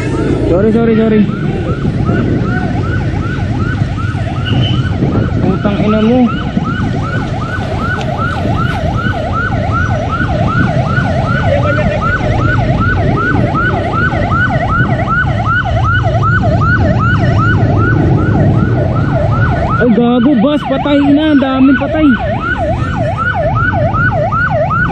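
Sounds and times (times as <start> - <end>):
rumble of engines and traffic: 0.0 - 24.9
siren yelping: 0.0 - 24.9.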